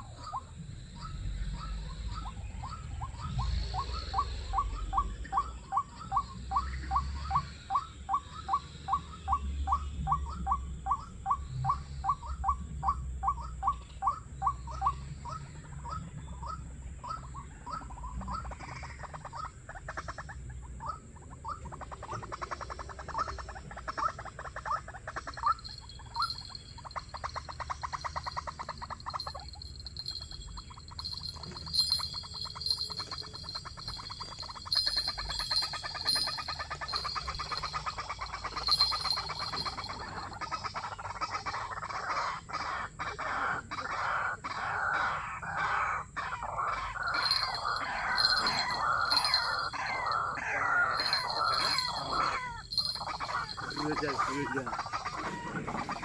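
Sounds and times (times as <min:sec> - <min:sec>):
waterhens calling: 0:00.0 - 0:56.0.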